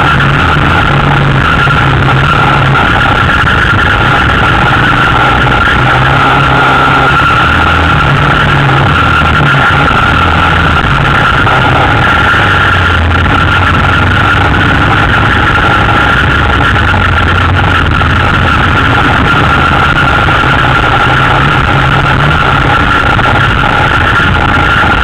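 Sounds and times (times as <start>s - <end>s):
quad engine running loudly: 0.0s - 25.0s.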